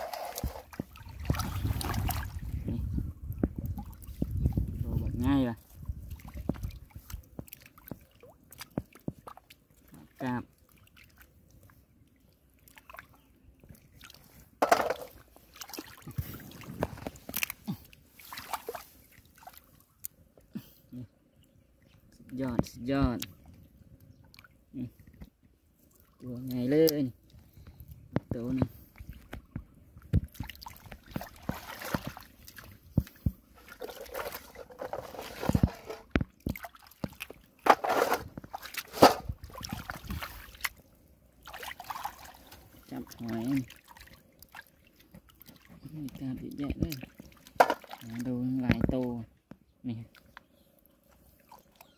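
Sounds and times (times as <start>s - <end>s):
muddy water sloshing and splashing: 0.0s - 51.9s.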